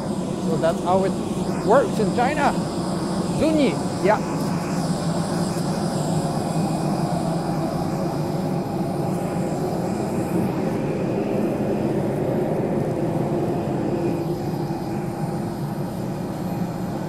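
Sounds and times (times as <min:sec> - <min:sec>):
jet turbine drone: 0:00.0 - 0:17.0.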